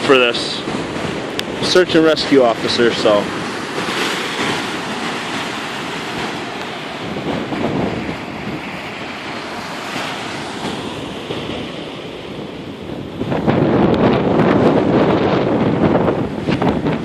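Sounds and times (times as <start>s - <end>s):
waves surging: 0.0s - 17.0s
wind buffeting microphone: 0.0s - 17.0s.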